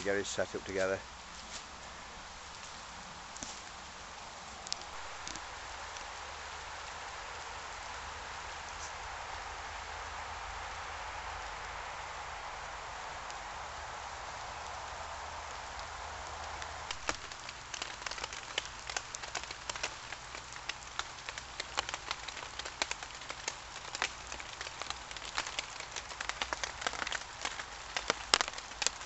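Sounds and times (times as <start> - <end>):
raindrops tapping on a tarp: 0.0 - 29.0
steady hiss: 0.0 - 29.0.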